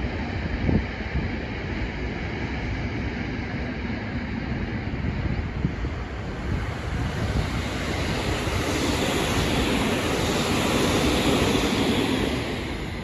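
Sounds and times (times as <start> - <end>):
electric train passing: 0.0 - 13.0
wind rumble on microphone: 0.0 - 13.0.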